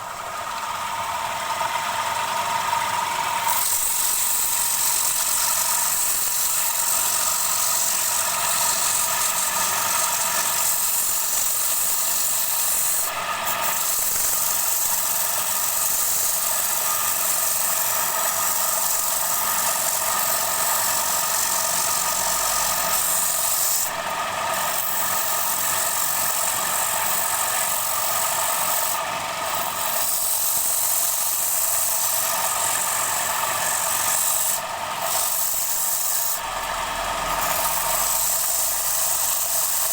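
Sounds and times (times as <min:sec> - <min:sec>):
tool scraping spinning wood: 0:00.0 - 0:39.9
wood lathe hum: 0:00.0 - 0:39.9.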